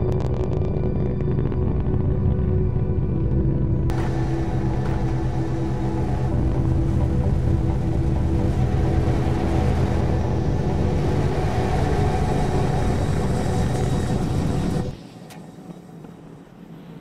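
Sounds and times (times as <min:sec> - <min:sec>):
deep rocket engine rumble: 0:00.0 - 0:16.9.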